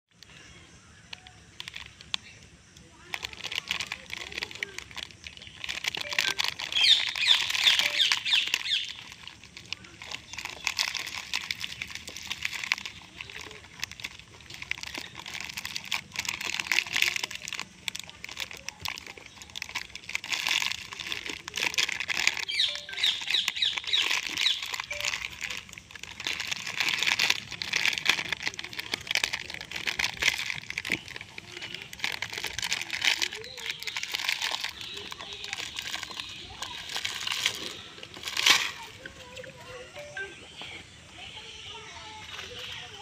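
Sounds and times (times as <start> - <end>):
snack packet crinkling: 1.0 - 41.6
small clicks and rustles: 1.1 - 39.6.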